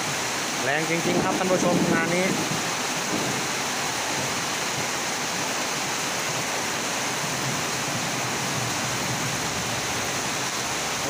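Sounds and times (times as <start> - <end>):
heavy rain hitting standing water: 0.0 - 11.0.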